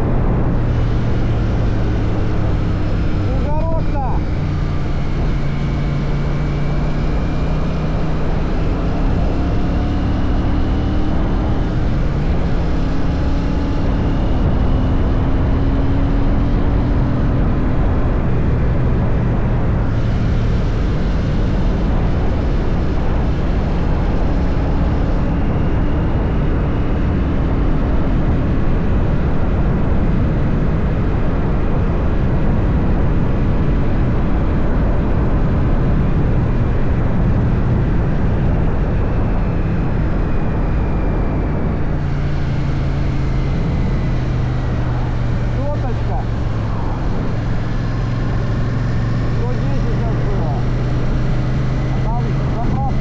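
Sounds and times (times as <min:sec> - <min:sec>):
wind noise: 0:00.0 - 0:49.5
motorcycle engine cruising: 0:00.0 - 0:53.0.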